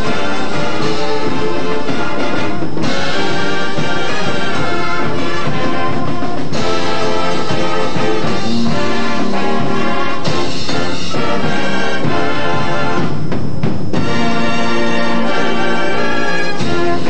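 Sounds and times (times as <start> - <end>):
marching band brass and drums: 0.0 - 17.0.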